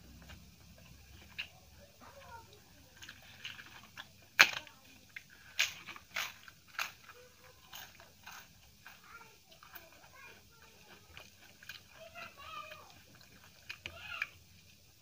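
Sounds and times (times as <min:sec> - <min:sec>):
papadam crunching and snapping: 0:00.0 - 0:15.0.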